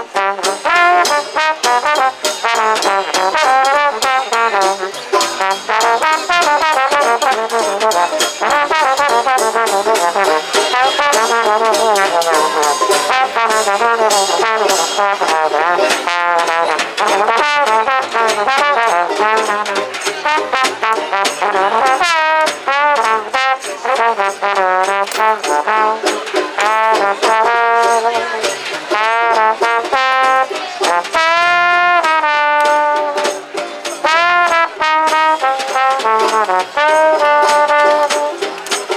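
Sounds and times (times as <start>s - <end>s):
double bass: 0.0s - 38.9s
snare drum and cymbal: 0.0s - 38.9s
trombone melody: 0.0s - 38.9s.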